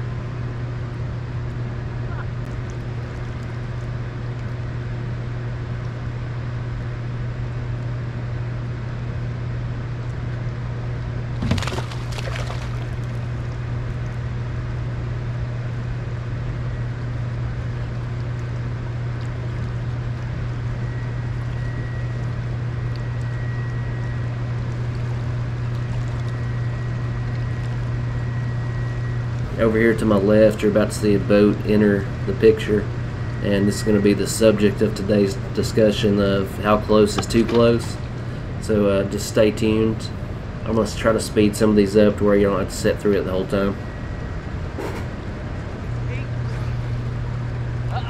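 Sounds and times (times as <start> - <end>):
boat motor droning: 8.6 - 48.0.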